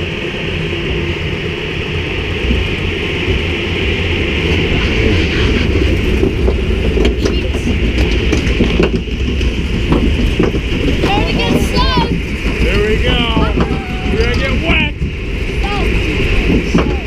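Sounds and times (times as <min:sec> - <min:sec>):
water rushing: 0:00.0 - 0:17.0
chain conveyor rumbling clatter: 0:01.2 - 0:17.0.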